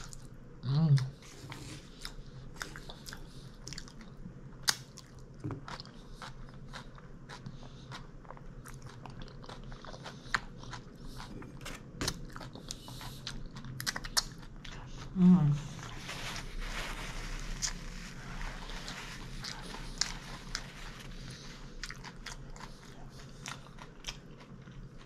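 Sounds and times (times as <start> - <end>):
person chewing crunchy food: 1.0 - 25.0.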